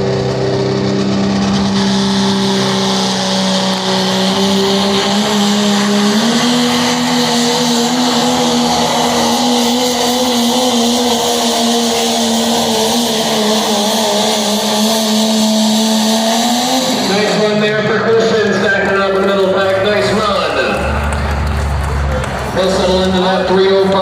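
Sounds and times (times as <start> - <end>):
engine running hard under load: 0.0 - 24.0.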